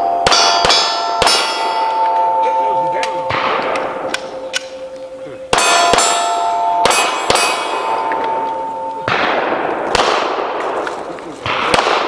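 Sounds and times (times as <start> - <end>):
steel plates ringing: 0.0 - 9.7
pistol shots: 0.1 - 4.8, 5.5 - 12.0.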